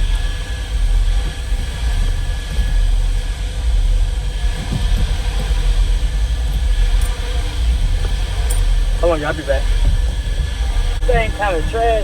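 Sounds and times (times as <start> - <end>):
faint steady whine: 0.0 - 12.0.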